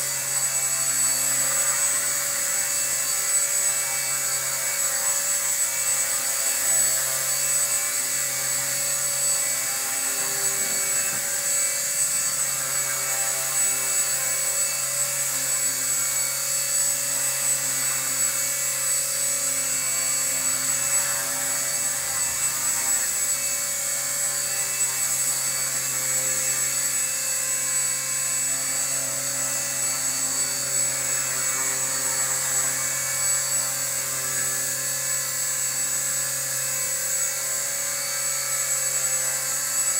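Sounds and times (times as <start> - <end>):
rc helicopter hovering: 0.0 - 39.9.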